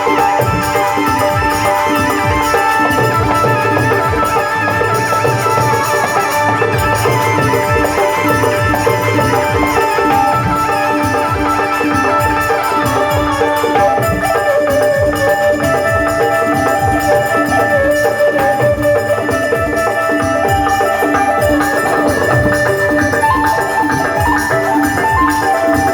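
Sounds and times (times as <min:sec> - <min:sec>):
hand percussion beat: 0:00.0 - 0:25.9
sustained melody tones: 0:00.0 - 0:25.9.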